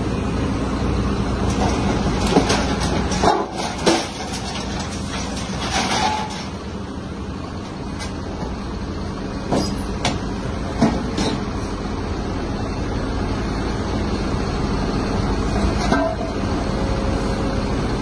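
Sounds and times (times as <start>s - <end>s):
excavator diesel engine and hydraulics: 0.0s - 18.0s.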